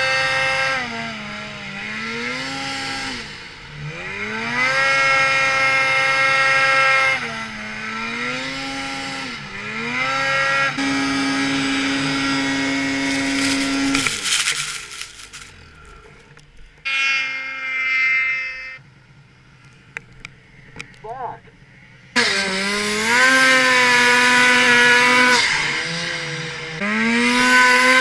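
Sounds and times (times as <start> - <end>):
snowmobile engine revving: 0.0 - 19.4, 21.9 - 28.0.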